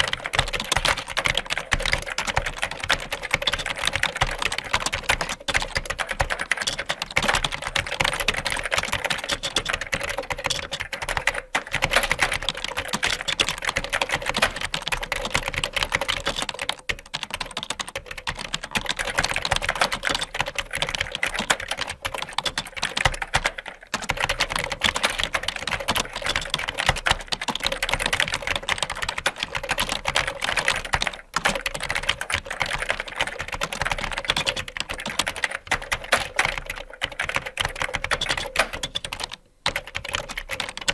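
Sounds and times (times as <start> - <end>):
fast typing on a keyboard: 0.0 - 40.9.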